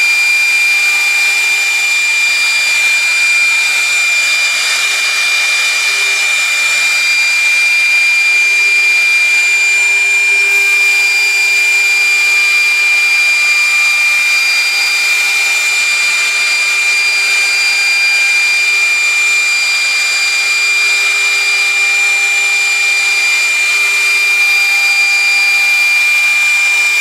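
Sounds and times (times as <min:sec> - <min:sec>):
router spindle high-pitched whine: 0:00.0 - 0:27.0.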